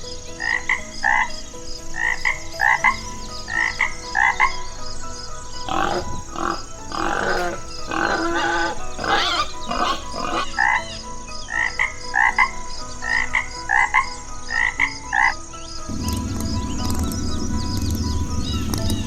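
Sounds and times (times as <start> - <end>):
frogs croaking: 0.0 - 19.0.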